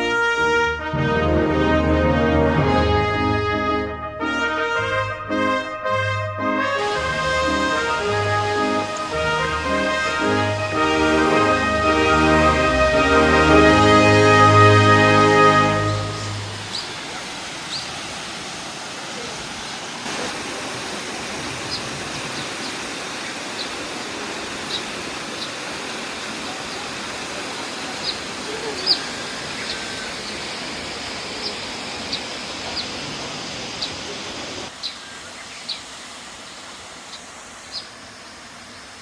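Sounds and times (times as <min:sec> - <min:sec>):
waterfall rushing: 0:06.6 - 0:39.0.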